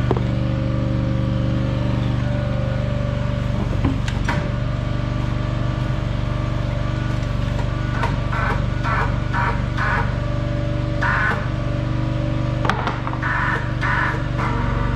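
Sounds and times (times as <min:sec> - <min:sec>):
crane engine running: 0:00.0 - 0:14.9.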